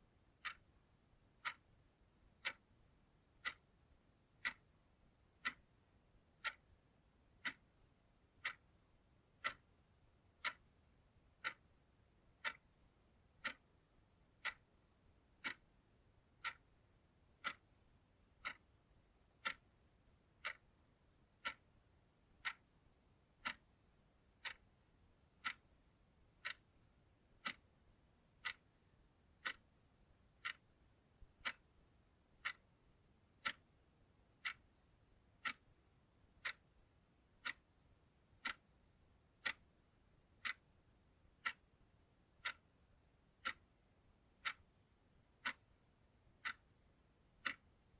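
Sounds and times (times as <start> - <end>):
clock ticking: 0.0 - 47.9.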